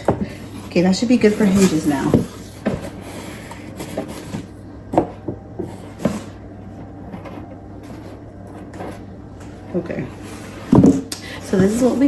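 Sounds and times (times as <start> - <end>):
low steady hum: 0.0 - 12.0
paper box rustling: 0.0 - 12.0.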